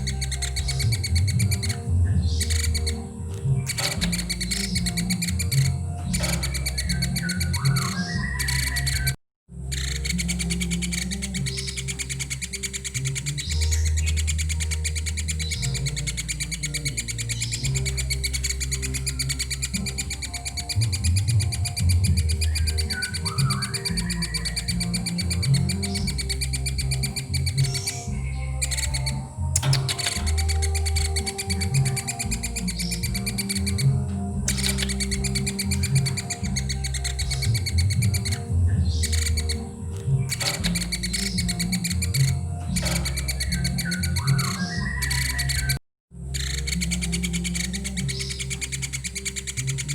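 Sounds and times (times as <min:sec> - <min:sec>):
background music with low bass: 0:00.0 - 0:49.9
young woodpecker chattering: 0:00.0 - 0:49.9.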